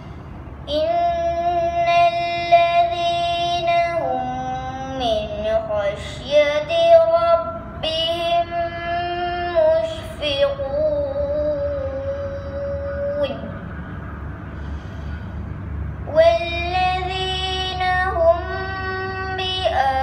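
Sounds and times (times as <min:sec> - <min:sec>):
girl chanting melodically: 0:00.6 - 0:13.6, 0:16.0 - 0:20.0.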